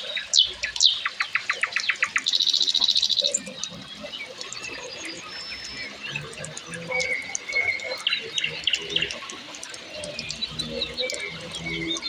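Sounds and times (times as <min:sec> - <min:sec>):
birds chirping: 0:00.0 - 0:12.0
birds whistling: 0:00.1 - 0:09.2, 0:09.9 - 0:12.0.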